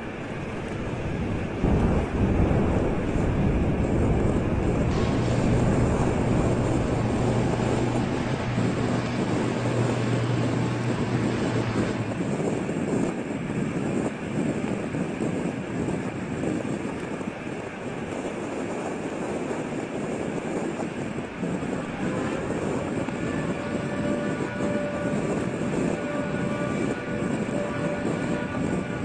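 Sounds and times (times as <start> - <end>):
low rumbling drone: 0.0 - 15.7, 19.6 - 29.0
low hum: 0.0 - 16.7, 18.5 - 29.0.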